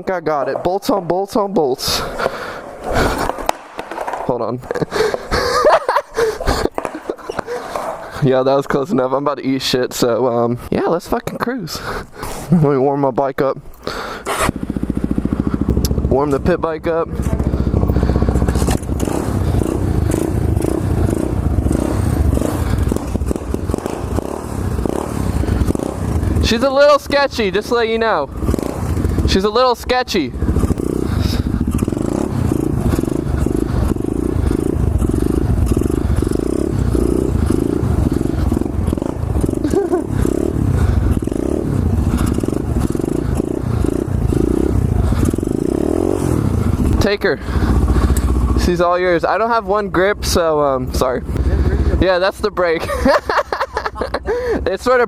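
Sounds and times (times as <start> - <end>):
motorcycle engine running: 0.3 - 9.2, 13.9 - 55.0.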